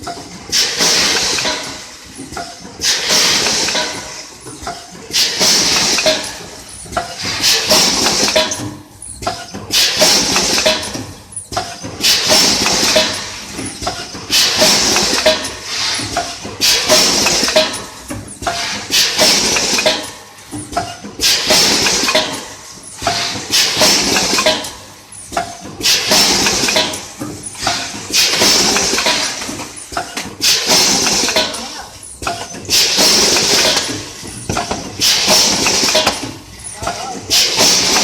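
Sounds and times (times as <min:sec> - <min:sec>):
packing machine hiss and clatter: 0:00.0 - 0:38.0.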